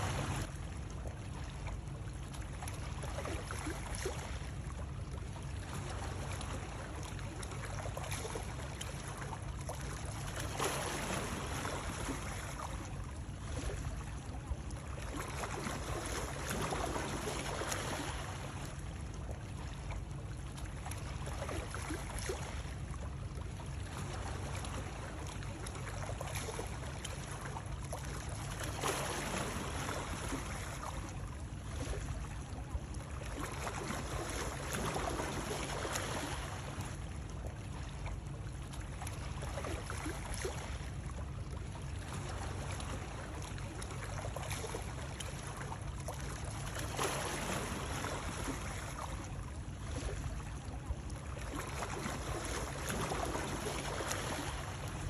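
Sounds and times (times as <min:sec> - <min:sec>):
water noise: 0:00.0 - 0:55.0.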